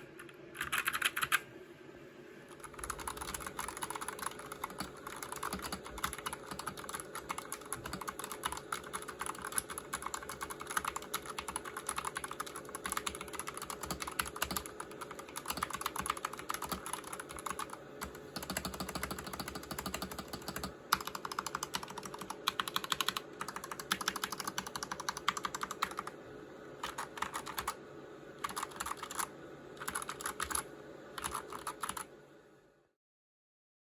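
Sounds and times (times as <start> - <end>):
fast typing on mechanical keyboard: 0.0 - 1.4, 2.5 - 26.2, 26.8 - 27.8, 28.4 - 32.1.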